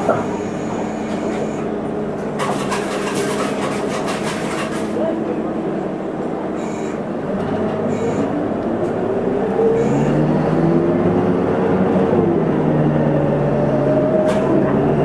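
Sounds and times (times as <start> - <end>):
bus engine and drivetrain whine: 0.0 - 15.0.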